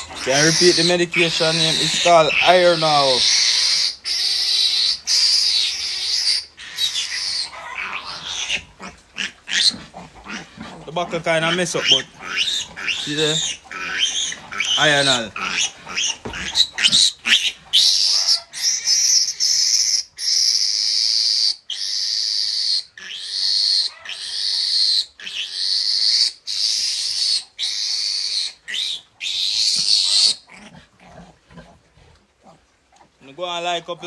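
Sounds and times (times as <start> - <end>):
piglet squealing: 0.0 - 30.8.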